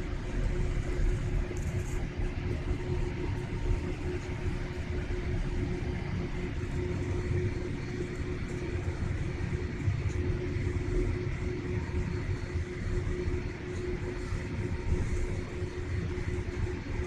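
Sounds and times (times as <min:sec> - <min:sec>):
aircraft cabin rumble: 0:00.0 - 0:17.0
constant low hum: 0:00.0 - 0:17.0.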